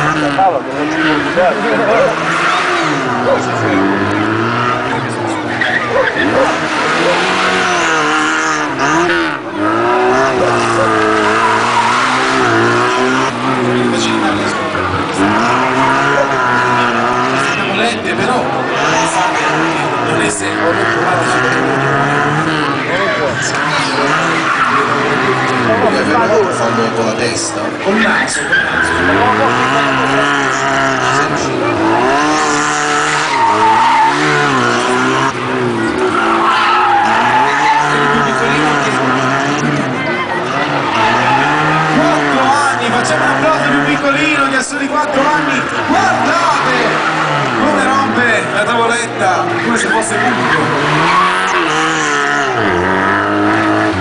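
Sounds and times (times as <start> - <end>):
car engine revving hard: 0.0 - 54.0
tyres squealing: 0.0 - 54.0.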